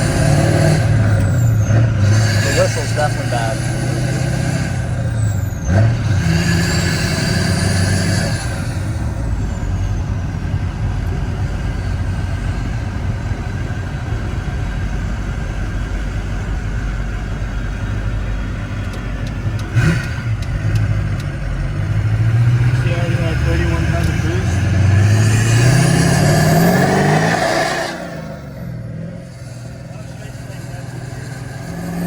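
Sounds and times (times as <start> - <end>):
diesel truck engine: 0.0 - 32.0
road noise: 0.0 - 32.0.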